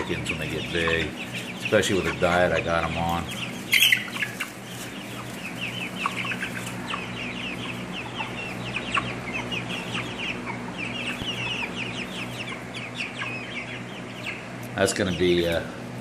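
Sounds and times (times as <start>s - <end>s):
chicks peeping and cheeping: 0.0s - 16.0s
steady low hum: 0.0s - 16.0s.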